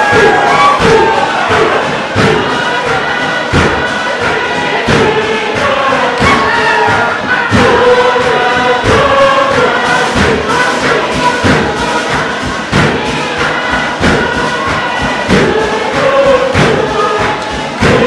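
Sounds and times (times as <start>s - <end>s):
group singing in chorus: 0.0s - 18.0s
steady pounding beat: 0.0s - 18.0s.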